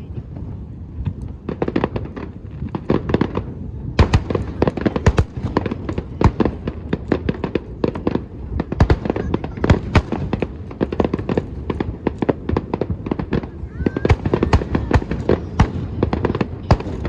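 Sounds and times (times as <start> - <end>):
continuous low rumble: 0.0 - 17.0
fireworks bangs and crackles: 0.0 - 17.0.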